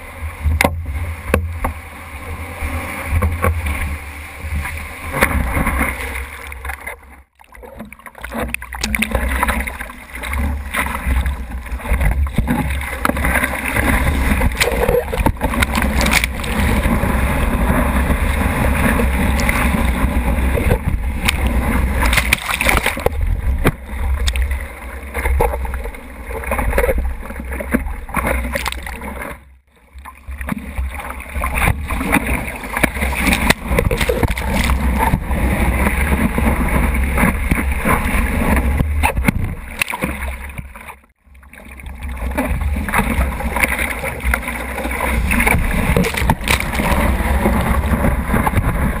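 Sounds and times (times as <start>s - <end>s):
whitewater rushing and splashing: 7.6s - 29.4s, 30.3s - 41.0s, 41.6s - 49.0s.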